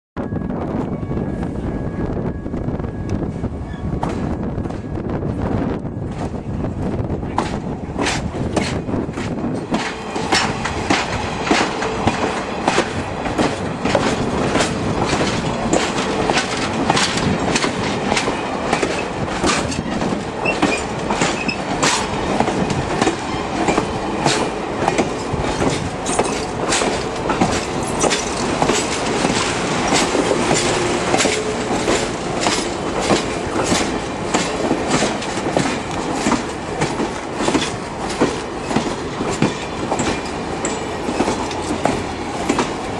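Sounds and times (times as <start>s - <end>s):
train rumble: 0.2s - 42.9s
train wheels clicking over rail joints: 7.2s - 42.9s.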